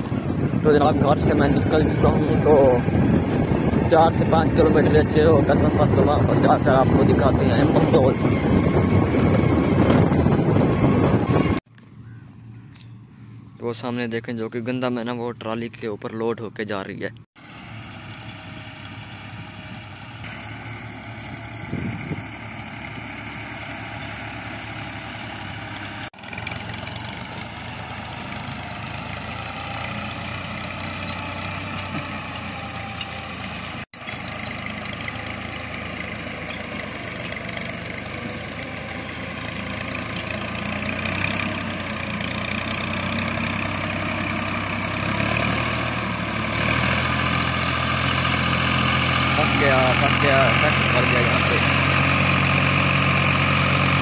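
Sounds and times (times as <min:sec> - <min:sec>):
diesel tractor engine running: 0:00.0 - 0:13.6, 0:17.4 - 0:54.0.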